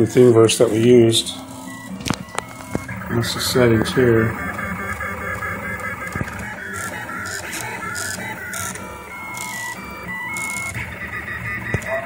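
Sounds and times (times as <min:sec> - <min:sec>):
printer stepper motors whining: 0:00.0 - 0:12.0.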